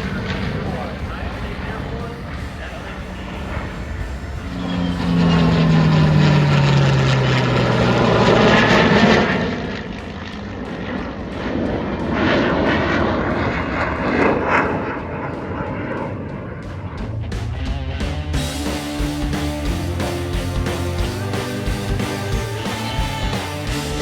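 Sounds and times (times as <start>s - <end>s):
aircraft flying past low: 0.0s - 24.0s.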